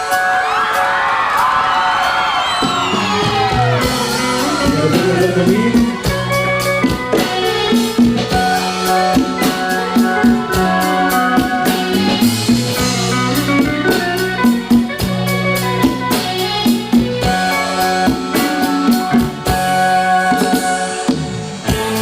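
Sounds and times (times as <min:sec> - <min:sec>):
bass and guitar chords: 0:00.0 - 0:22.0
drum kit beat: 0:00.0 - 0:22.0.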